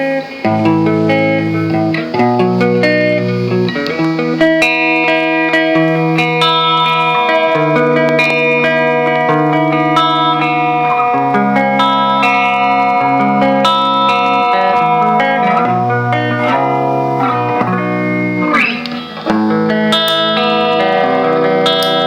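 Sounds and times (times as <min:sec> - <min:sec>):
electric guitar through effects pedal: 0:00.0 - 0:22.0.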